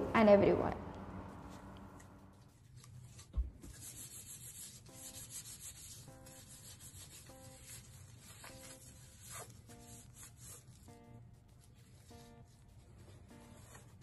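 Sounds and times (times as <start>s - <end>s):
plastic gloves rubbing: 1.4s - 14.0s.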